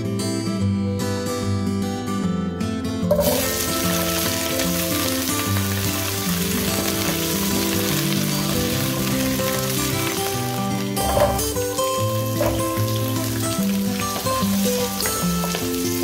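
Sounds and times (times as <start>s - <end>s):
background music: 0.0s - 16.0s
potatoes sizzling in oil: 3.1s - 16.0s.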